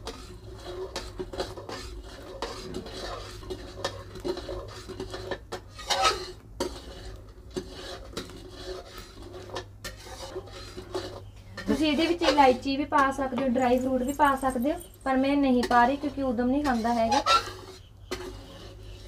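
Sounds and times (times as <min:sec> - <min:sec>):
metal spatula scraping a steel pan: 0:00.0 - 0:19.0.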